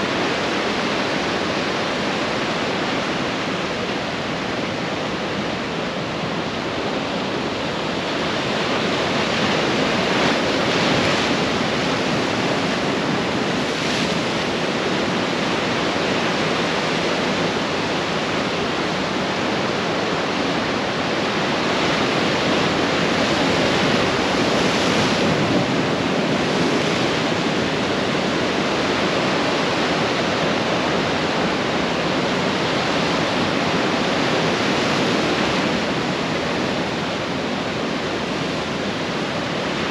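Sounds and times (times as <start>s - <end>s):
surf waves breaking: 0.0s - 39.9s.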